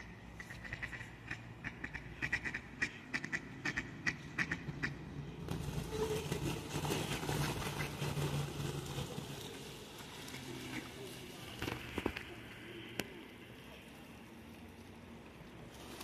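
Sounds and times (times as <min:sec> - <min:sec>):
low rumble with hiss: 0:00.0 - 0:16.0.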